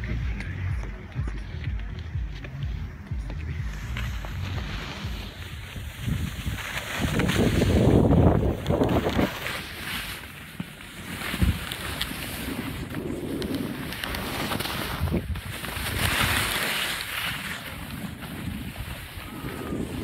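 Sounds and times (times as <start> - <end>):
wind noise on microphone: 0.0 - 10.2, 11.2 - 20.0
skis scraping over snow: 0.0 - 20.0.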